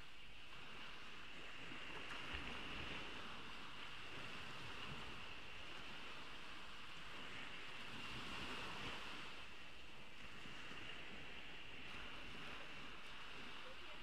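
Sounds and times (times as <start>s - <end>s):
gentle waves on a beach: 0.0s - 14.0s.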